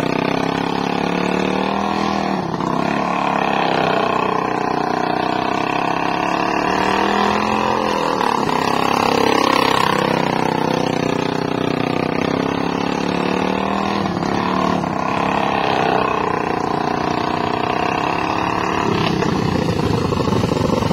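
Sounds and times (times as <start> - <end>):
lawnmower engine revving: 0.0 - 20.9
lower rough engine note: 0.0 - 20.9.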